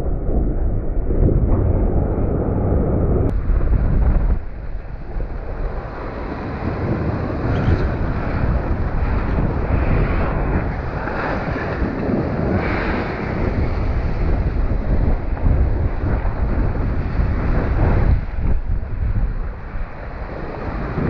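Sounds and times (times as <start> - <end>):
wind buffeting microphone: 0.0 - 21.0
breaking surf: 3.3 - 21.0.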